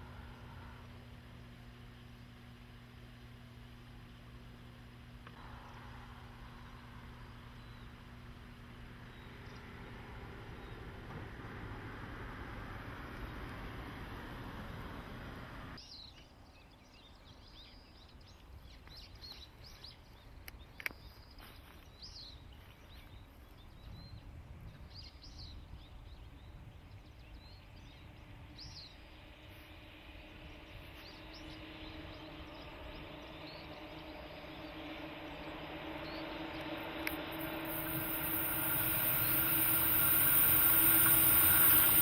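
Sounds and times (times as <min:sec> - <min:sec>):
low outdoor rumble: 0:00.0 - 0:15.8, 0:23.1 - 0:42.0
low steady hum: 0:00.0 - 0:21.4, 0:22.0 - 0:42.0.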